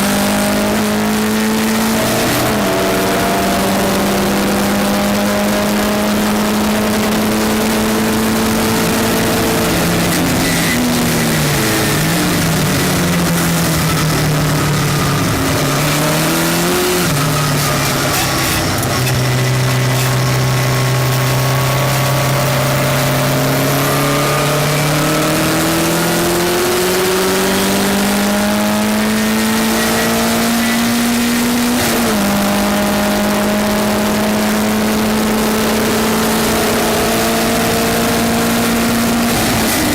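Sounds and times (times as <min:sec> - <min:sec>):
race car engine shifting gears: 0:00.0 - 0:39.9.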